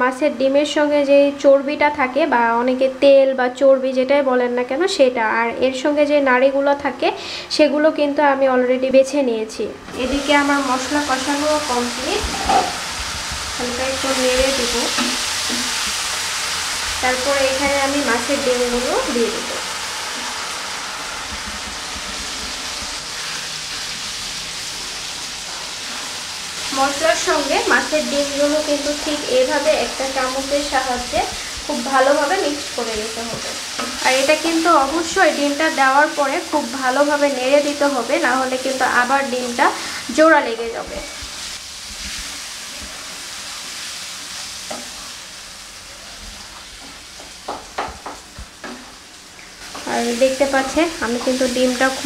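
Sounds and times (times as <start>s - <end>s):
paste sizzling in hot oil: 10.0s - 52.0s.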